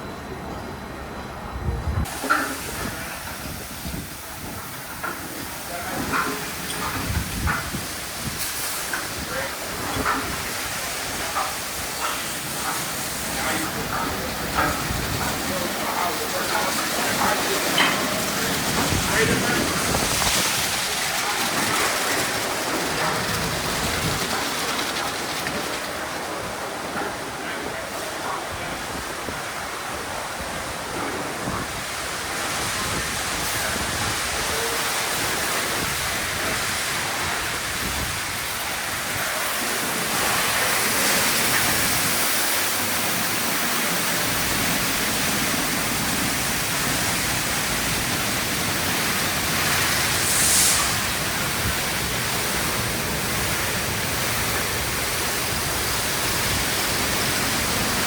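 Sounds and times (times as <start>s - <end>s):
water jets spraying: 2.0s - 58.0s.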